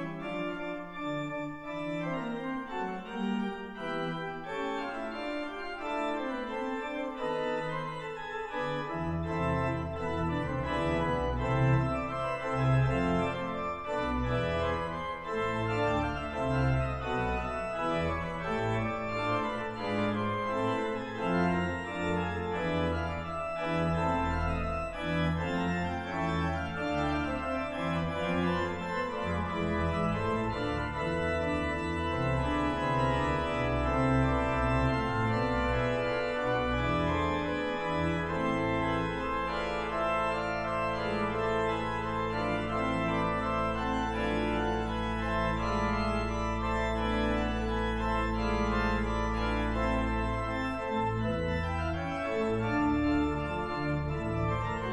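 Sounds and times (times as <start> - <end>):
pipe organ playing: 0.0 - 54.9.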